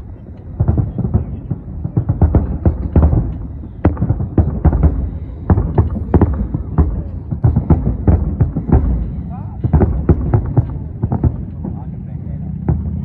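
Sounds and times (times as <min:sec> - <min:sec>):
fireworks bangs and pops: 0:00.0 - 0:13.0
low rumble: 0:00.0 - 0:13.0.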